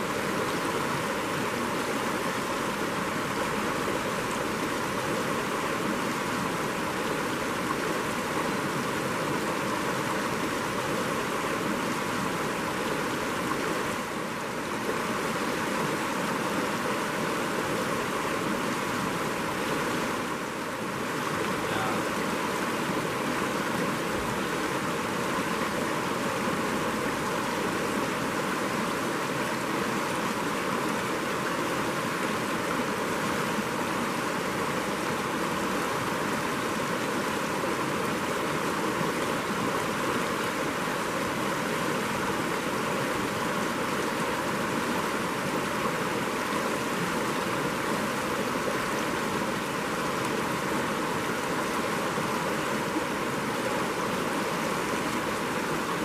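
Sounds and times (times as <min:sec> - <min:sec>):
rocky stream rushing: 0:00.0 - 0:56.0.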